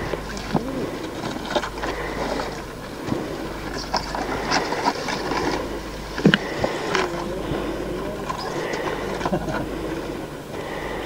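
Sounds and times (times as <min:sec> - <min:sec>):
vehicle body rattling: 0:00.0 - 0:11.0
vehicle engine drone: 0:00.0 - 0:11.0.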